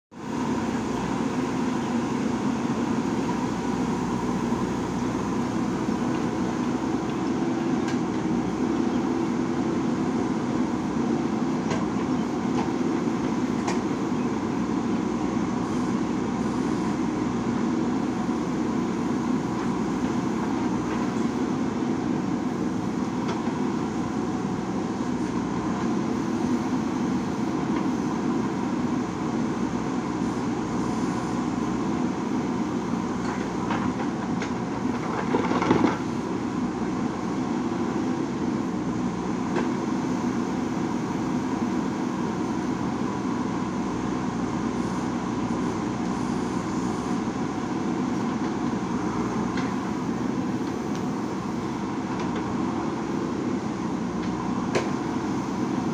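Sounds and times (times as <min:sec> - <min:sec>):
diesel engine droning: 0:00.1 - 0:55.9
backhoe digging soil: 0:00.3 - 0:55.9.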